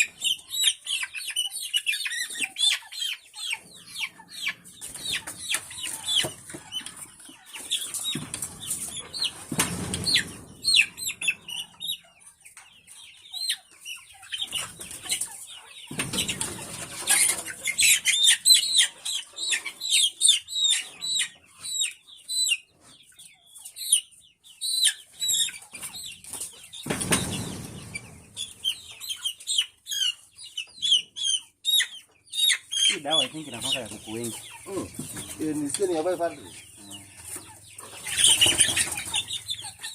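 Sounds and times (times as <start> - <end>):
chickens peeping: 0.0 - 39.9.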